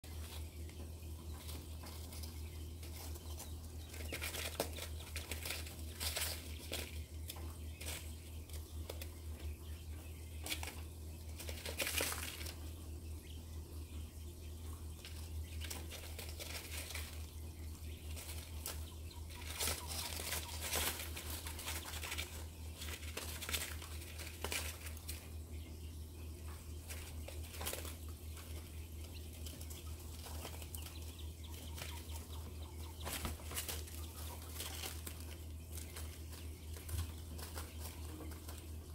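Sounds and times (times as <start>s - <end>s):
quails scratching in grain bedding: 0.0s - 38.9s
steady low hum: 0.0s - 38.9s.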